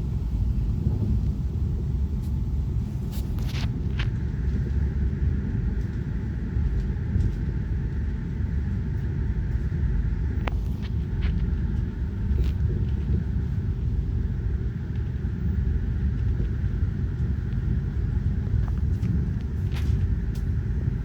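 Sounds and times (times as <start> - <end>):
train rumbling inside carriage: 0.0 - 21.0.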